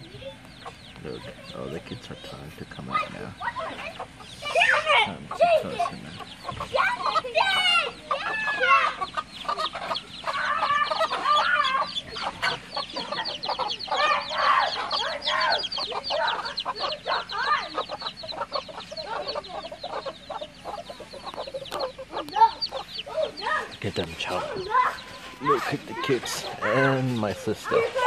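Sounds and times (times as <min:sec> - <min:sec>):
chicks peeping: 0:00.0 - 0:28.0
hens clucking: 0:00.0 - 0:28.0.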